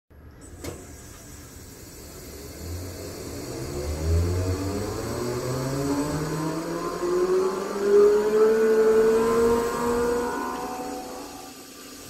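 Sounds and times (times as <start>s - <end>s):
motor speeding up: 2.2s - 12.0s.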